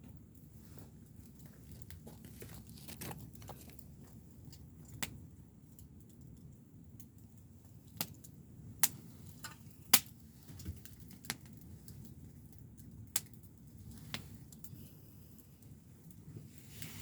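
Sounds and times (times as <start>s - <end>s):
wood pops of campfire: 0.0s - 14.8s.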